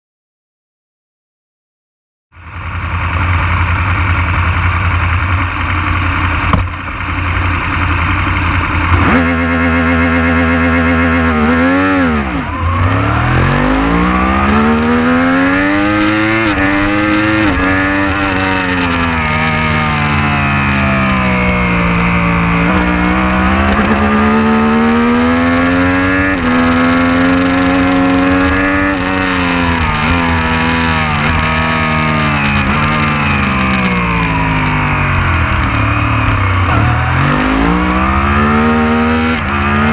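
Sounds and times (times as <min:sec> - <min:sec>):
motorcycle engine revving: 0:02.4 - 0:39.9.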